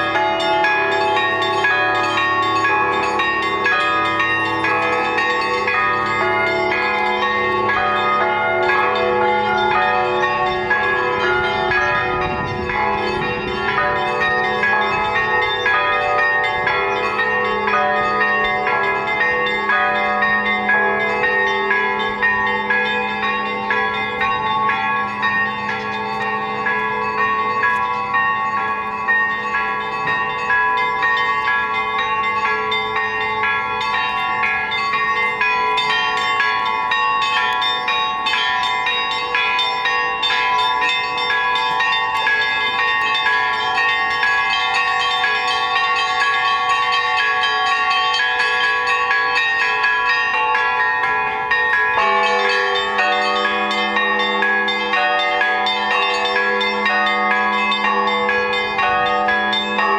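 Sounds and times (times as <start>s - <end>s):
deep church bells ringing: 0.0s - 59.9s
small church bells chiming rapidly: 0.0s - 59.9s.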